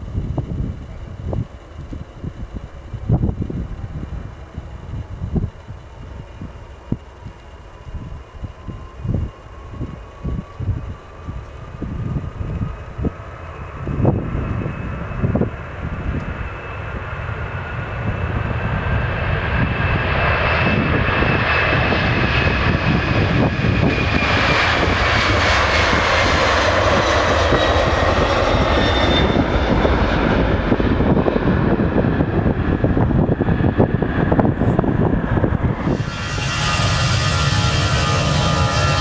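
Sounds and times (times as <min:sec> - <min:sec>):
jet engine rumble: 0:00.0 - 0:39.0
jet engines at takeoff thrust: 0:00.0 - 0:39.0.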